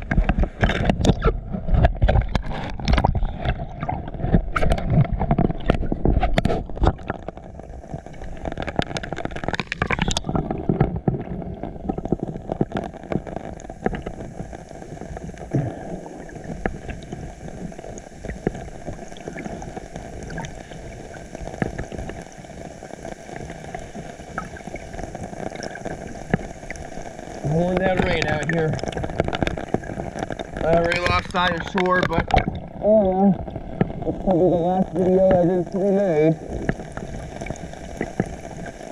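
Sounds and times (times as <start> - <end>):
water splashing from swimming: 0.0 - 34.3.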